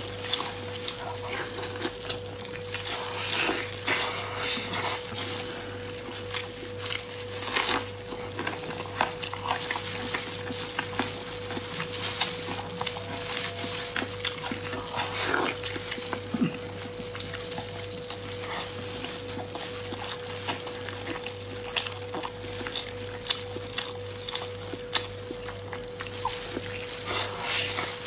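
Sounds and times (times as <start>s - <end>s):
steady background hum: 0.0s - 28.0s
wet chewing and lip-smacking: 0.0s - 28.0s.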